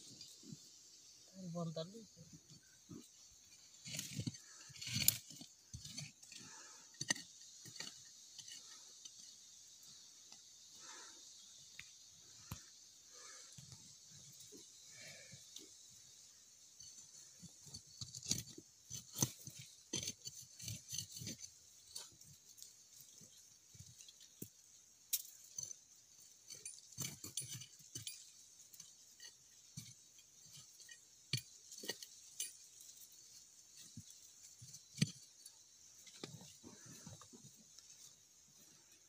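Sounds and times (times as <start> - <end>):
hand tool digging dry soil: 2.4 - 10.4, 13.6 - 39.0.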